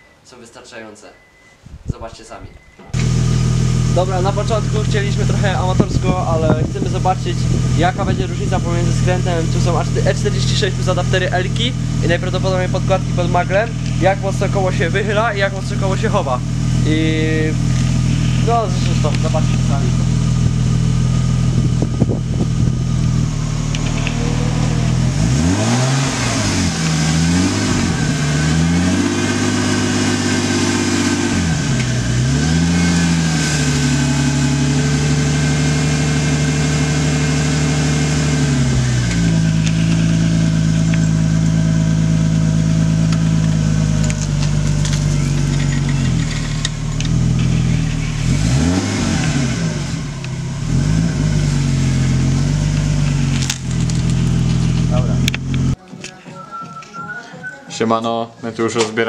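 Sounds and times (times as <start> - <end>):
car engine idling: 2.6 - 55.8.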